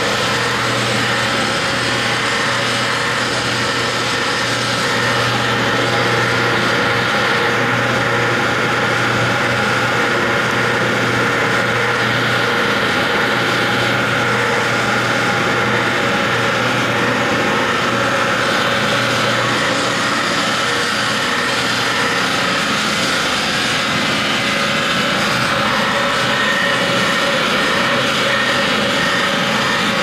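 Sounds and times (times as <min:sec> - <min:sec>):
blender motor hum with whine: 0:00.0 - 0:30.0.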